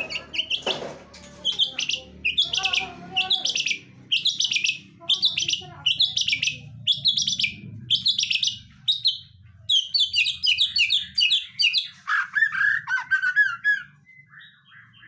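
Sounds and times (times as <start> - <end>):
bird singing chirps and trills: 0.0 - 15.0.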